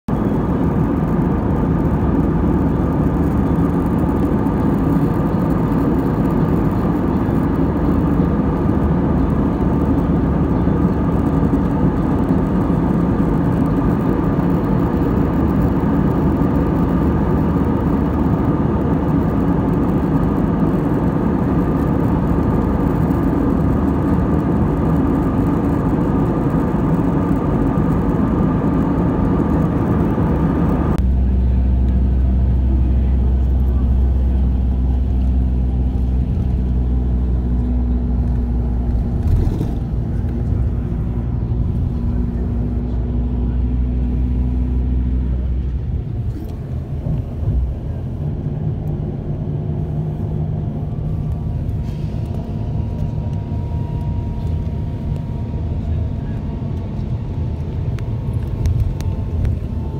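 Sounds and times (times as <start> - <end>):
jet engines and rushing air: 0.1 - 59.9.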